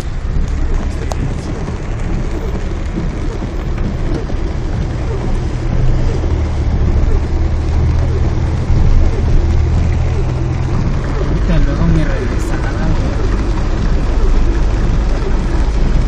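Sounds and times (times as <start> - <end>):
car driving low rumble: 0.0 - 16.0
heavy rain on a car: 0.0 - 16.0.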